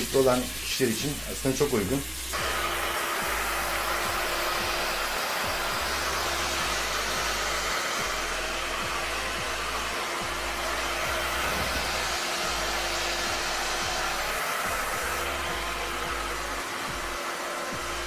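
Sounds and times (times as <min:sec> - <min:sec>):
hair dryer blowing: 0:00.0 - 0:18.0.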